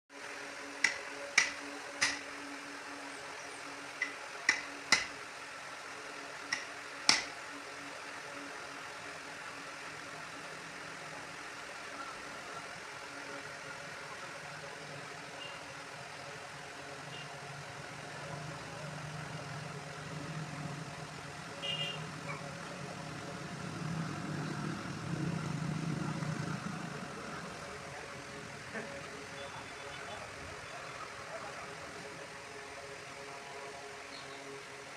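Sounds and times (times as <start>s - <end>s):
steady engine-like hum: 0.2s - 34.9s.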